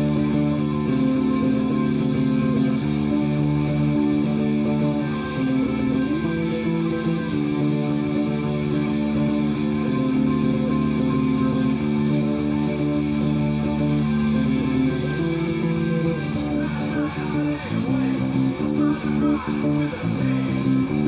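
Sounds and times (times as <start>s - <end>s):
electric bass: 0.0s - 21.0s
punk rock song: 0.0s - 21.0s.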